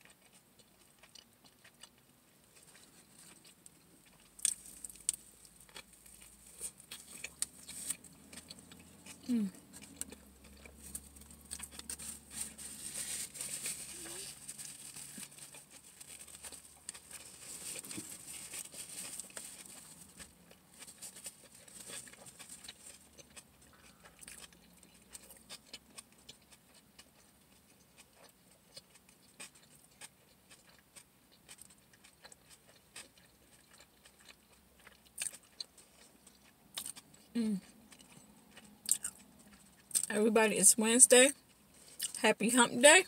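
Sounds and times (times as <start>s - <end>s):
person chewing: 0.0s - 40.1s, 41.4s - 42.2s.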